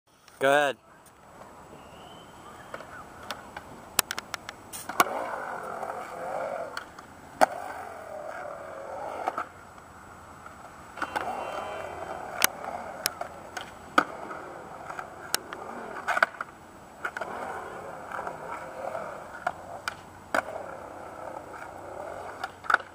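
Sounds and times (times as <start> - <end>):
skateboard wheels rolling on concrete: 0.1 - 22.9
skateboard clacks: 2.7 - 9.6, 10.4 - 22.9.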